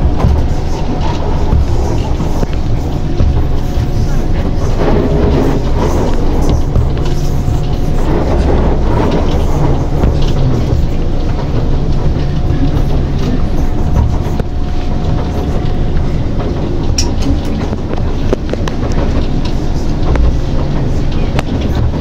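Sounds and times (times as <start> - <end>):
faint steady whine: 0.0 - 22.0
train wheels rumbling on track: 0.0 - 22.0.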